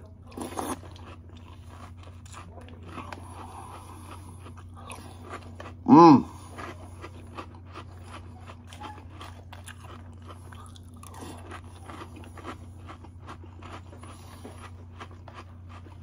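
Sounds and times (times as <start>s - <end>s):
person chewing crunchy cereal: 0.0s - 16.0s.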